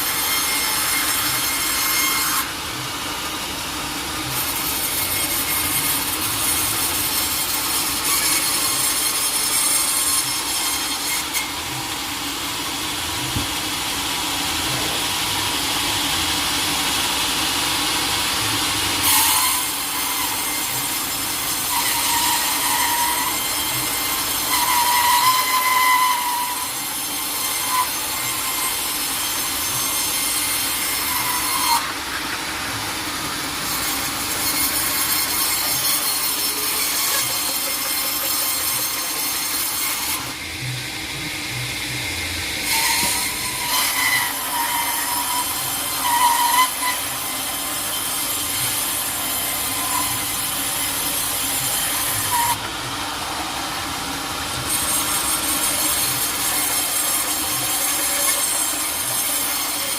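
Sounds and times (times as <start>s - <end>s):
high saw whine: 0.0s - 59.9s
saw cutting through log: 0.0s - 59.9s.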